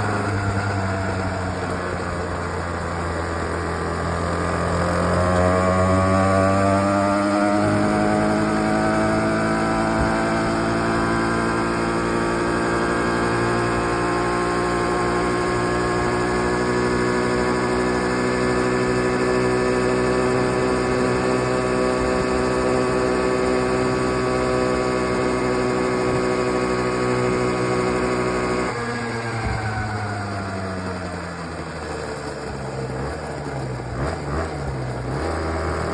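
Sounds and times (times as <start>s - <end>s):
two-stroke minibike engine: 0.0s - 35.9s.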